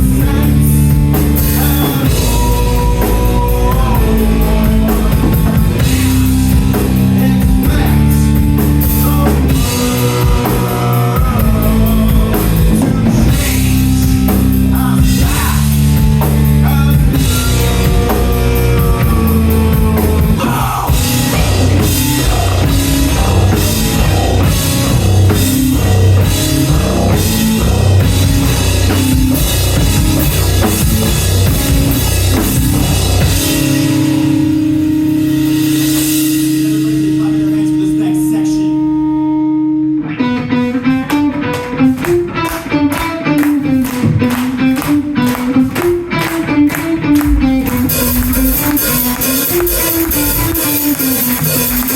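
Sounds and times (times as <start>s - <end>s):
loud rock music: 0.0s - 51.9s.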